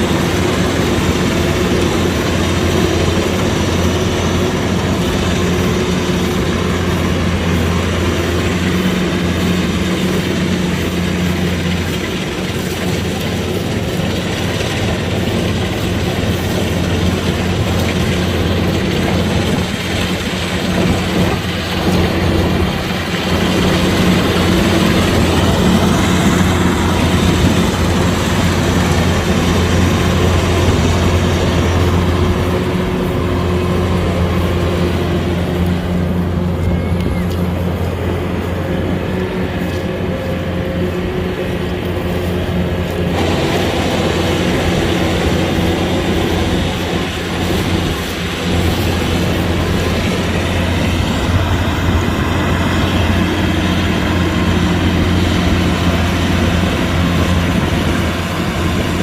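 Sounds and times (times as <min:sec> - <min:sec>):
combine harvester diesel engine: 0:00.0 - 0:59.0
machine noise: 0:00.0 - 0:59.0.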